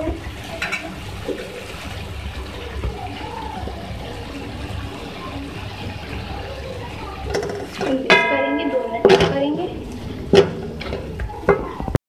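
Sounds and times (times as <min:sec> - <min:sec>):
food sizzling in a wok: 0:00.0 - 0:11.6.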